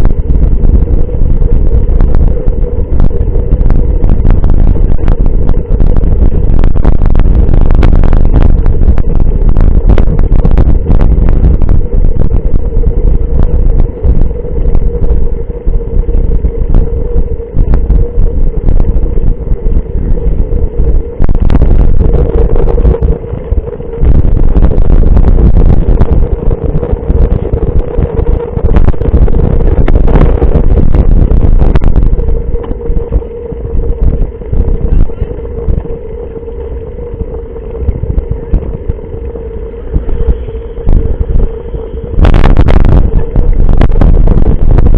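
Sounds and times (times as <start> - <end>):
steady hum: 0.0 - 44.9
wind rumble on microphone: 0.0 - 44.9.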